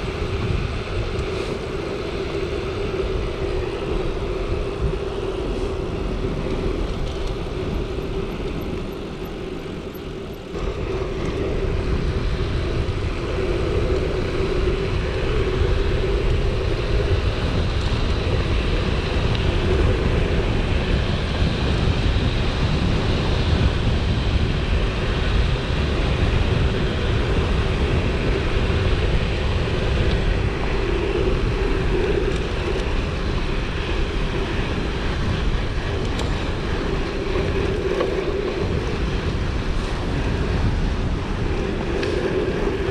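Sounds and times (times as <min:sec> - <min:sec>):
bike tyres rolling: 0:00.0 - 0:42.9
wind rushing over camera: 0:00.0 - 0:42.9.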